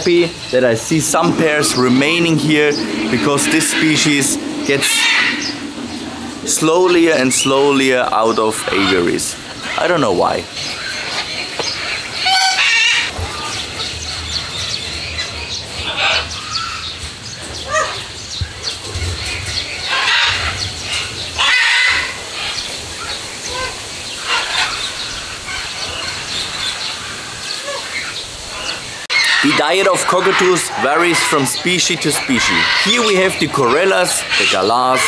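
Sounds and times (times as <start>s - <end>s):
parrots calling: 0.0s - 35.0s.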